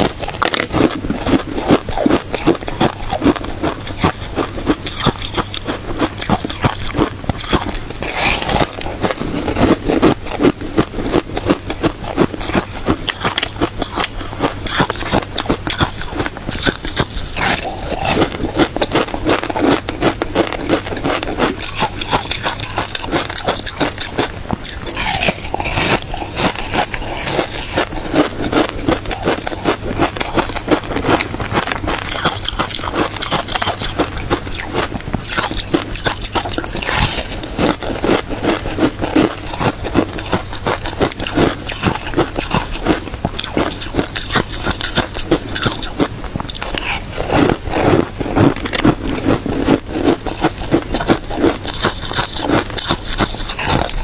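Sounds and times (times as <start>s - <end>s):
person chewing crunchy ice: 0.0s - 54.0s.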